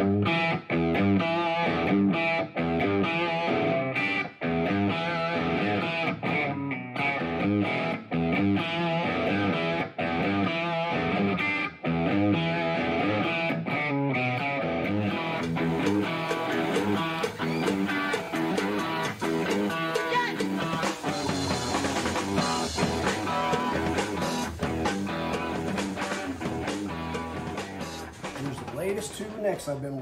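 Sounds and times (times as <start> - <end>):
electric guitar strumming chords: 0.0 - 30.0.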